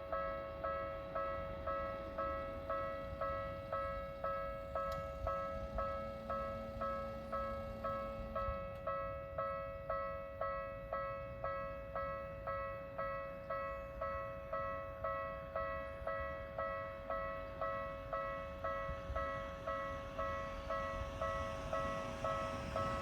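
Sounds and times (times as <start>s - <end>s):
level crossing warning bell: 0.0s - 23.0s.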